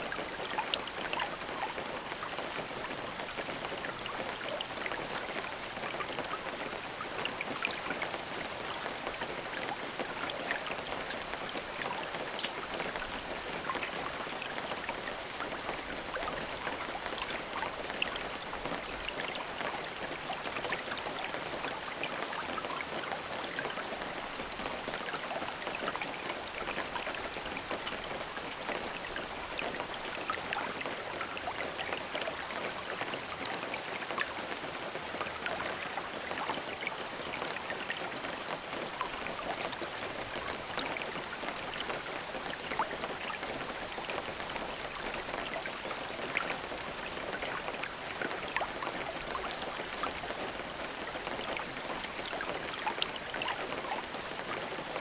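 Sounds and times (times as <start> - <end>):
rain drops pattering: 0.0 - 55.0.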